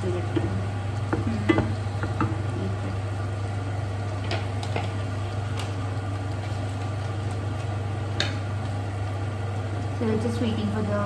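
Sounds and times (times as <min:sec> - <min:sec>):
low hum of appliance: 0:00.0 - 0:11.0.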